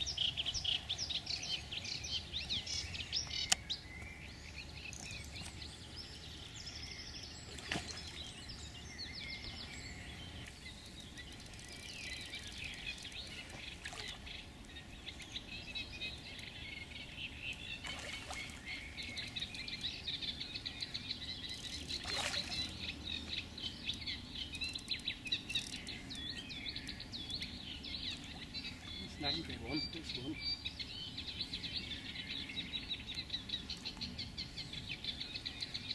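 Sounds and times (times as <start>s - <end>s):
small birds singing: 0.0s - 35.9s.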